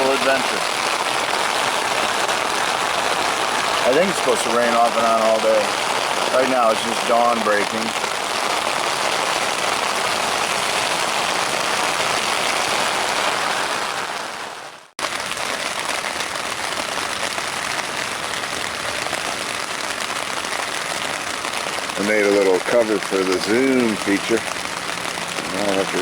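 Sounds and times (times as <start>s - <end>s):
rain falling on a tent: 0.0s - 26.0s.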